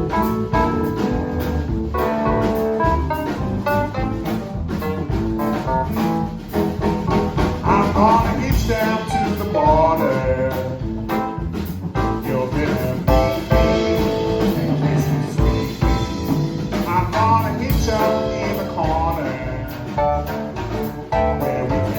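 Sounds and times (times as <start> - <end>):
blues-rock band playing live: 0.0 - 21.9.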